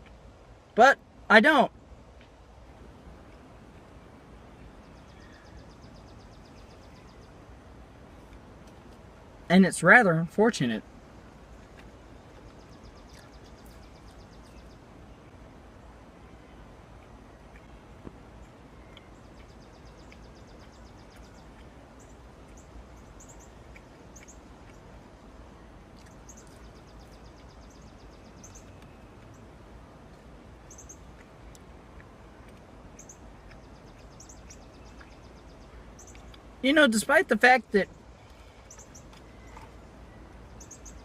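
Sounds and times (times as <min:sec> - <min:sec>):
faint background hiss: 0:00.0 - 0:41.0
small birds chirping: 0:00.0 - 0:41.0.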